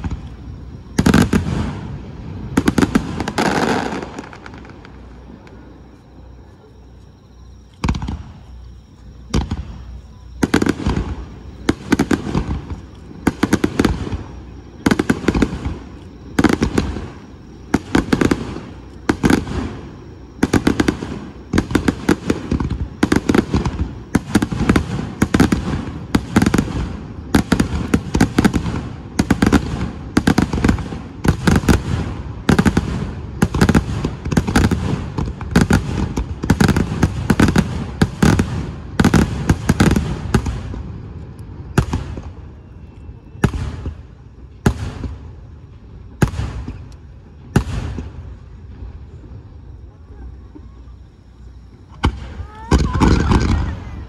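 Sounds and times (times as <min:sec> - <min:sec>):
fireworks booming: 0:00.0 - 0:54.0
fireworks crackling: 0:00.0 - 0:54.0.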